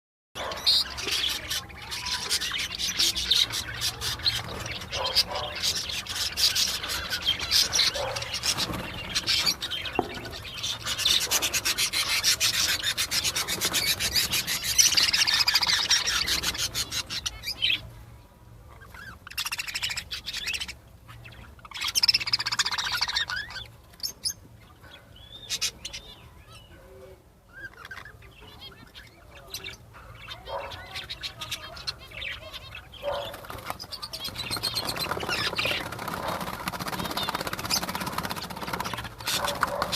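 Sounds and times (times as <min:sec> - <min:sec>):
budgerigars chattering and chirping: 0:00.4 - 0:17.9, 0:18.7 - 0:39.9.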